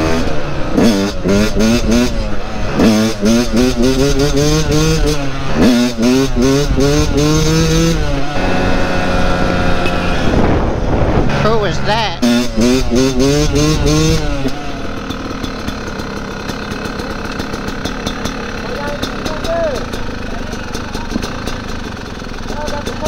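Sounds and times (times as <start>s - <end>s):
dirt bike engine accelerating: 0.0s - 23.0s.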